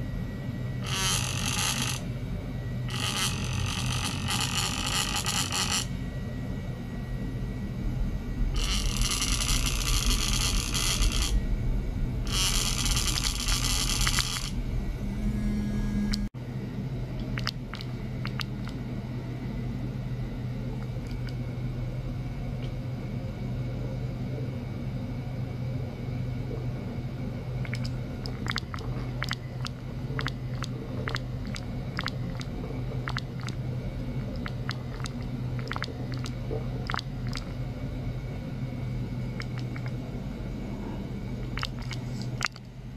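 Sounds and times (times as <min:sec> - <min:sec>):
faint rumble: 0:00.0 - 0:42.9
low electrical hum: 0:00.0 - 0:42.9.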